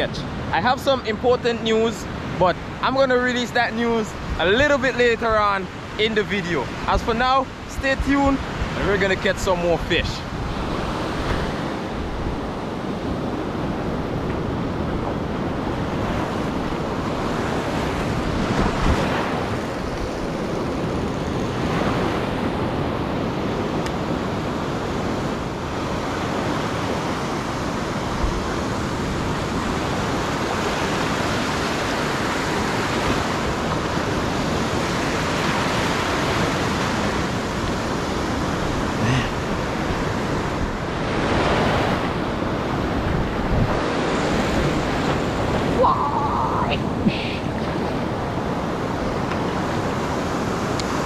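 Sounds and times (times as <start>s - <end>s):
sea surf washing on shore: 0.0s - 51.0s
wind buffeting microphone: 10.0s - 51.0s.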